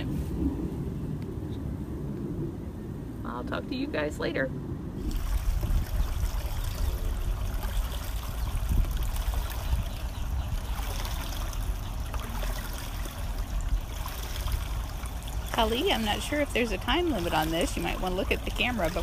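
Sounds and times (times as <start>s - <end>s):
low irregular rumble: 0.0s - 19.0s
water trickling and lapping: 0.0s - 19.0s.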